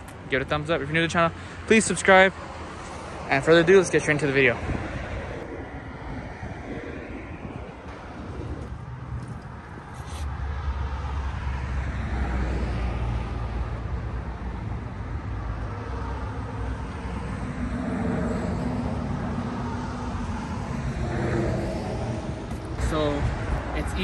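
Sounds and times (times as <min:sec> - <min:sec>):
road traffic rumble: 0:00.0 - 0:24.0
vehicles passing with tyre noise: 0:00.0 - 0:24.0.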